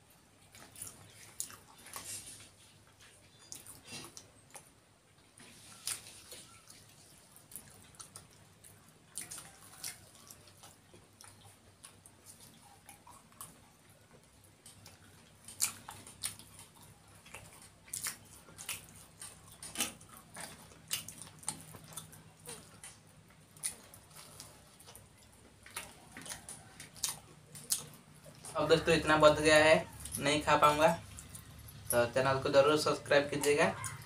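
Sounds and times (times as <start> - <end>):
people chewing with mouth smacks: 0.0 - 34.0.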